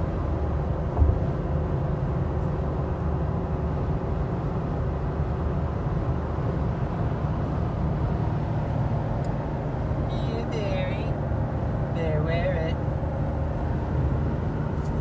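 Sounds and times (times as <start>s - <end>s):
road and engine noise in cabin: 0.0s - 15.0s.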